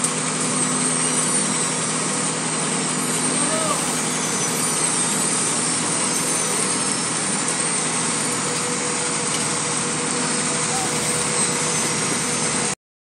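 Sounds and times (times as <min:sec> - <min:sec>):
heavy diesel machinery running: 0:00.0 - 0:12.8.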